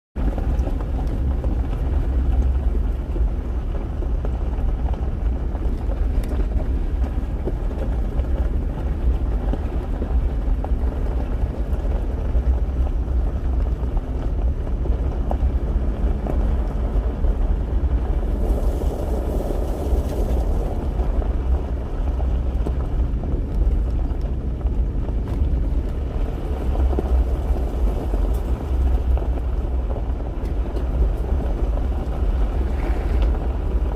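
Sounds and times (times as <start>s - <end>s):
car driving rumble: 0.2s - 33.9s
wind noise: 0.2s - 33.9s.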